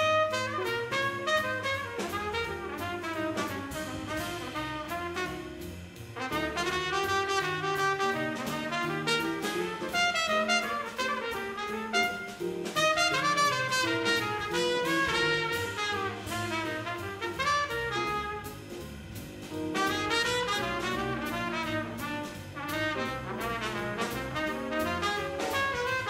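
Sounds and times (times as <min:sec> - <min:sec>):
trumpet: 0:00.0 - 0:18.9, 0:19.5 - 0:26.0
double bass: 0:00.0 - 0:26.0
drum kit with ticking cymbals: 0:00.0 - 0:26.0.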